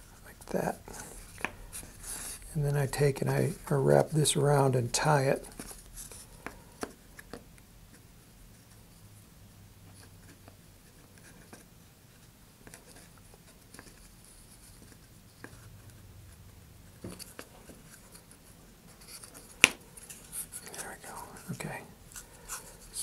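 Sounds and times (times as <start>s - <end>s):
cord rustling and scratching: 0.0s - 9.0s, 9.8s - 23.0s.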